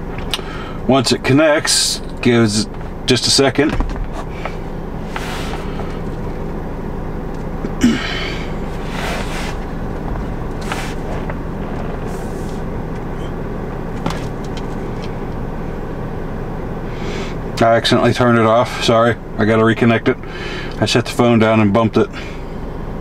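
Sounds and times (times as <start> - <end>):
car engine and fan hum: 0.0 - 23.0.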